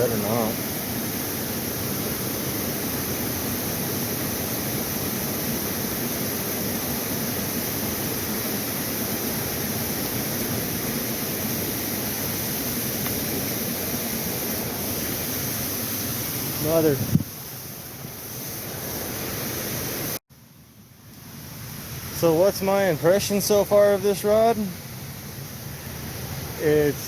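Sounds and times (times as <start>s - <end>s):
creek water rushing: 0.0s - 20.2s, 21.2s - 27.0s.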